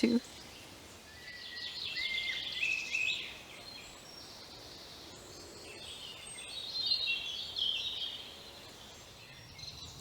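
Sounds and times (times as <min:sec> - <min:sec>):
faint background hiss: 0:00.0 - 0:10.0
songbirds singing: 0:00.0 - 0:10.0.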